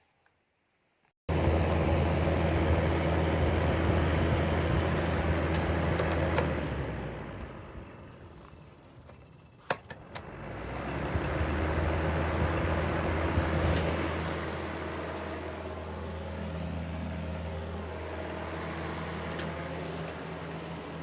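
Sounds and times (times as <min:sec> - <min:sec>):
fan heater humming: 0:01.3 - 0:08.3, 0:10.1 - 0:21.0.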